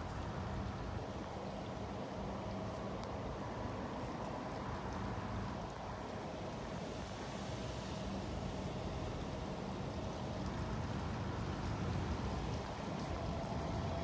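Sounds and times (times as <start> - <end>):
cars driving through intersection: 0.0 - 14.0.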